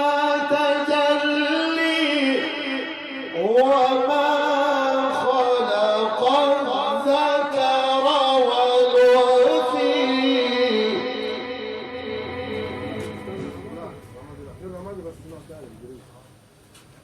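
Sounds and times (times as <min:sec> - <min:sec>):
man reciting melismatically: 0:00.0 - 0:16.4.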